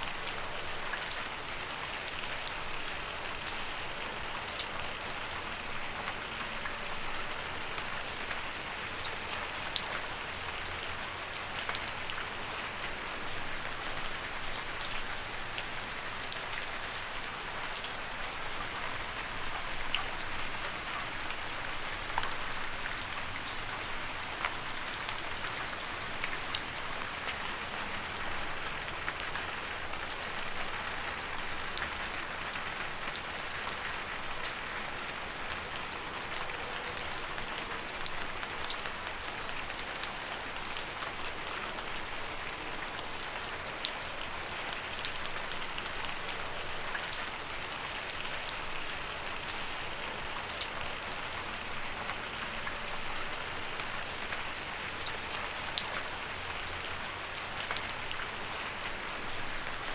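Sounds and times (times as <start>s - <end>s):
rain drops pattering: 0.0s - 59.9s.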